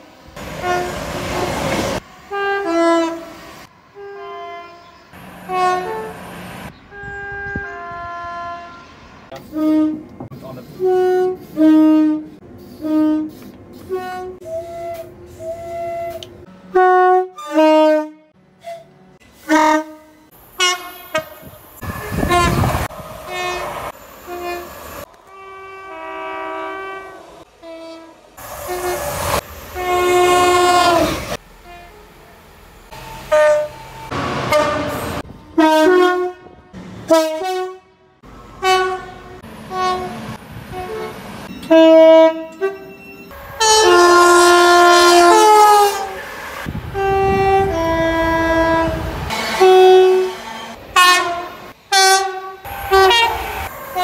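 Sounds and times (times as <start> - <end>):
passing train rumble: 0.0 - 54.0
two-tone train horn: 0.6 - 6.2, 6.9 - 10.2, 10.8 - 32.3, 32.9 - 54.0.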